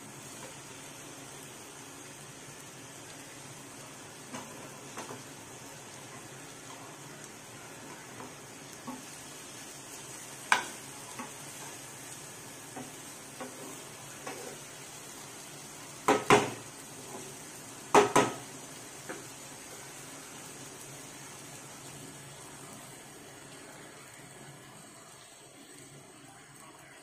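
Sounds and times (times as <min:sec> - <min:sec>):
steady sizzle: 0:00.0 - 0:27.0.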